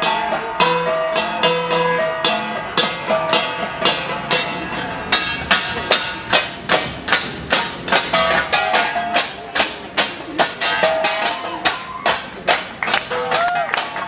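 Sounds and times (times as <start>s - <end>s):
bronze gongs playing: 0.0s - 12.0s.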